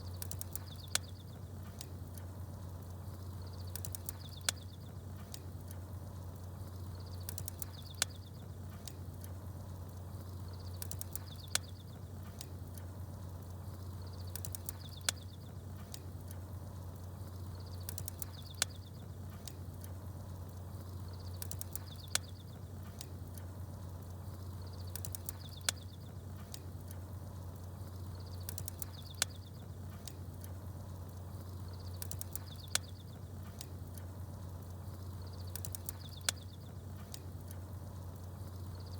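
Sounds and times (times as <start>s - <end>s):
campfire crackling and popping: 0.0s - 38.9s
small birds chirping: 0.0s - 38.9s
steady low hum: 0.0s - 38.9s.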